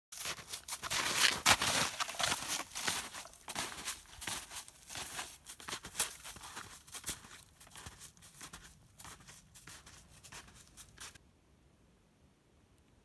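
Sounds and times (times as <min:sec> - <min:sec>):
footsteps crunching through snow: 0:00.1 - 0:11.2.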